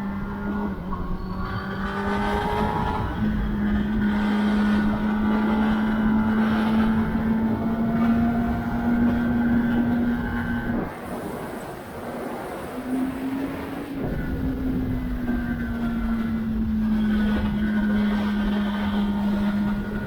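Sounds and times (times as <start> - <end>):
motorcycle engine and exhaust: 0.0 - 20.0
wind rush: 0.2 - 20.0.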